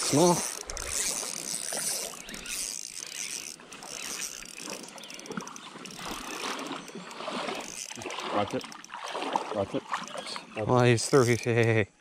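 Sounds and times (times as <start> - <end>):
fishing reel clicking: 0.0 - 9.0, 11.0 - 11.7
creek water rushing: 0.0 - 11.2.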